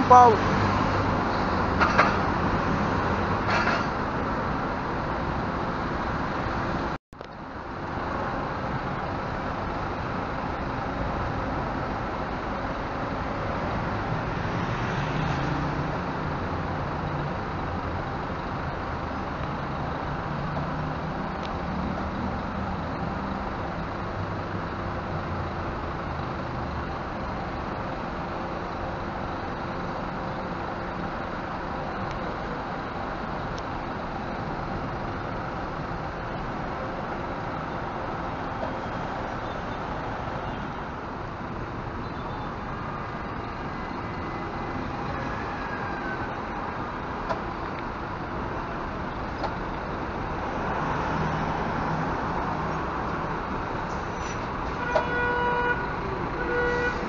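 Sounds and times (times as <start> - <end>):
coach diesel engine: 0.0 - 57.0
traffic noise: 0.0 - 57.0.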